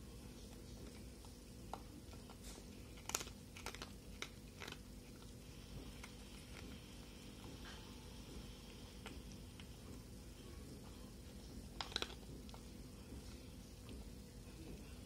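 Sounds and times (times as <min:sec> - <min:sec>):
cat crunching dry kibble: 0:00.1 - 0:15.0.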